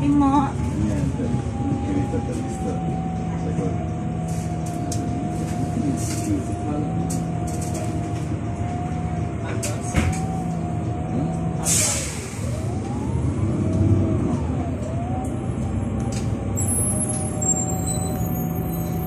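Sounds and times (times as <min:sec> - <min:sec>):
bus engine hum with whine: 0:00.0 - 0:19.0.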